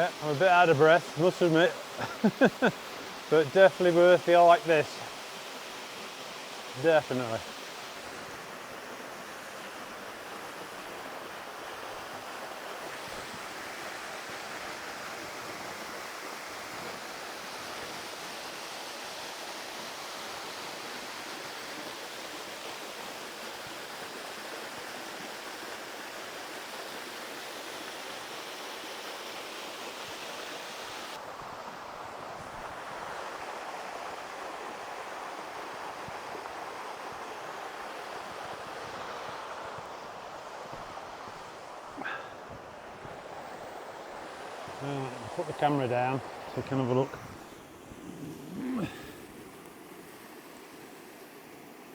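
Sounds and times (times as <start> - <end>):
waterfall rushing: 0.0 - 23.9, 32.1 - 50.8.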